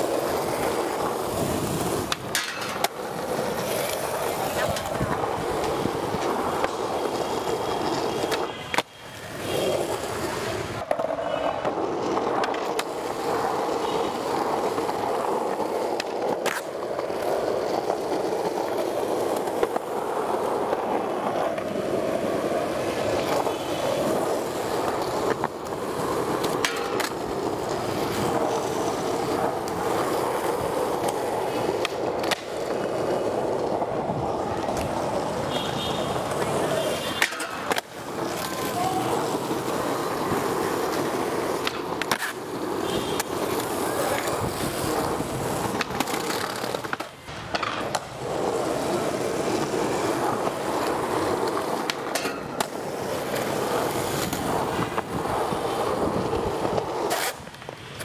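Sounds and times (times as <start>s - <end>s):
skateboard clacking on ground: 0.0s - 58.0s
skateboard wheels rolling on concrete: 0.0s - 58.0s.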